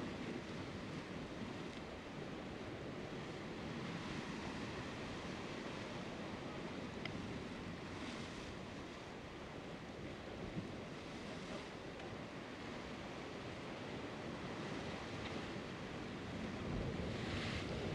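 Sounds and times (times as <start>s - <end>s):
ocean surf breaking on rocks: 0.0s - 17.9s.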